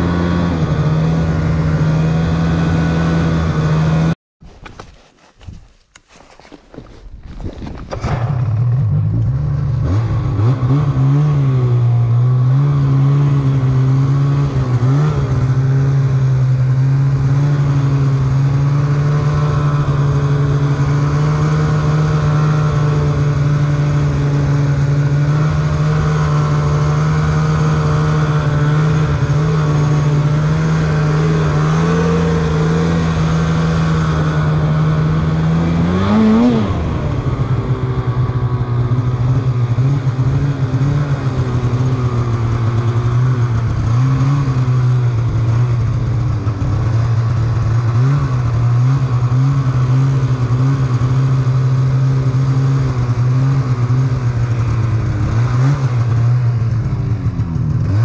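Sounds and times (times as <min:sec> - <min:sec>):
snowmobile engine revving: 0:00.0 - 0:04.2, 0:07.6 - 0:58.0.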